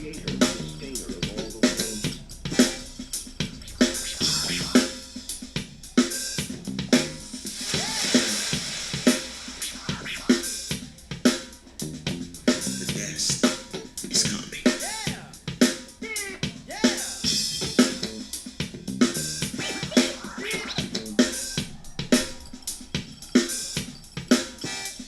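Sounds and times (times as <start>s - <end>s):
swooping sounds: 0.0s - 18.3s, 19.1s - 25.0s
drum-heavy music from speaker: 0.0s - 25.0s.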